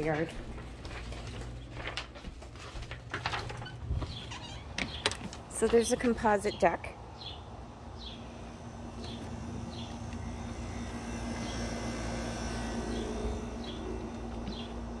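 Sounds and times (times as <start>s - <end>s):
air conditioner condenser humming: 0.0s - 15.0s.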